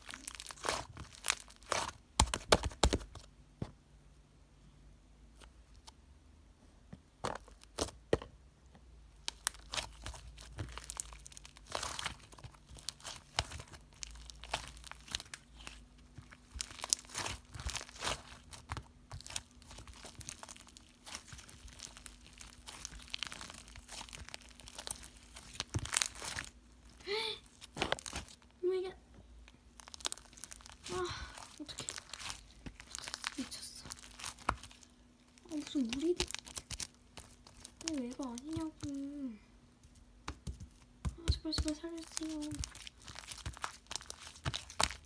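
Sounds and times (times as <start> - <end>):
clay squished by hand: 0.0 - 3.8, 9.2 - 28.5, 29.6 - 39.0, 39.8 - 45.0.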